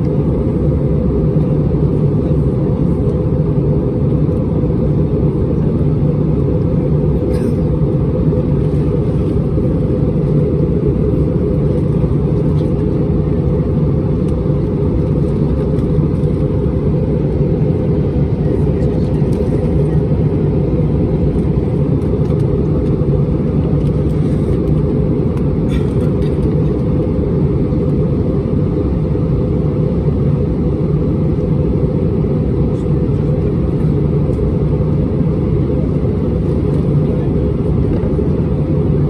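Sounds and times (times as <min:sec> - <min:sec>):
jet engine cabin rumble: 0:00.0 - 0:39.0.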